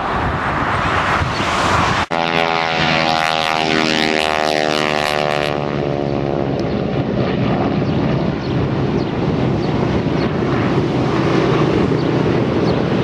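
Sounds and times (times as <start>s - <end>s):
propeller planes droning past: 0.0s - 13.0s
wind noise on microphone: 0.0s - 13.0s.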